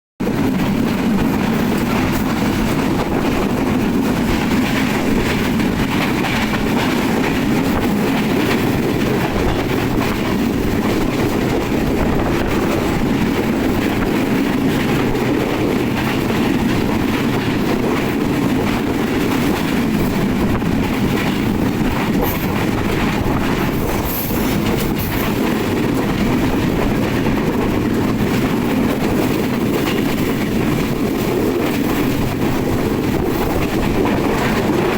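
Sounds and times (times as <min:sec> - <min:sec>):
train rumbling on rails: 0:00.2 - 0:34.9.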